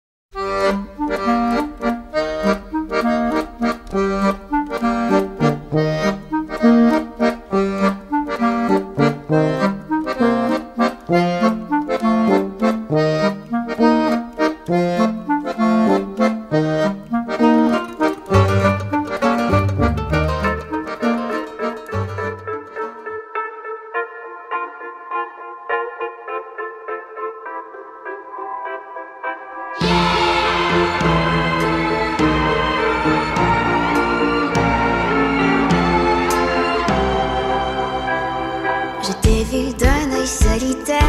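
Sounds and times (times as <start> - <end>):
instrumental music: 0.3 - 41.0.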